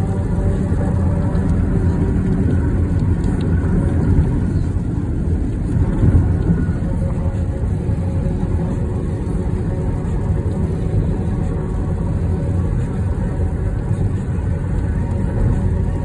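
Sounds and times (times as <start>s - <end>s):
faint steady hum: 0.0s - 16.0s
vehicle road rumble: 0.0s - 16.0s.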